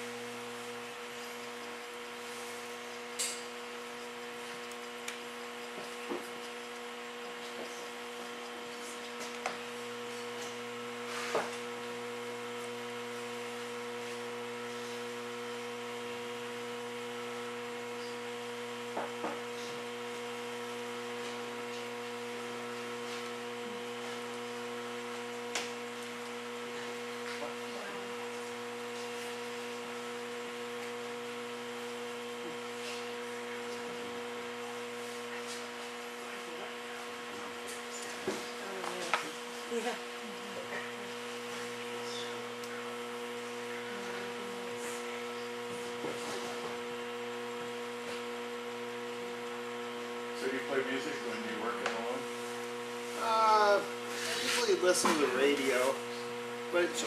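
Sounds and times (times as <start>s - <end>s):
electric hum: 0.0s - 57.0s.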